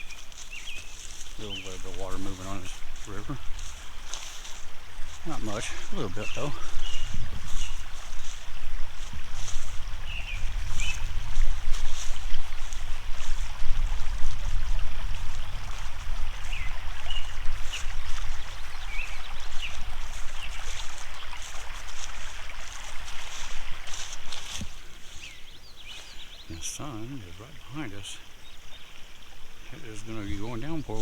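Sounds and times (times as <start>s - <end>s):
wind buffeting microphone: 0.0s - 26.6s
small birds chirping: 0.0s - 31.0s.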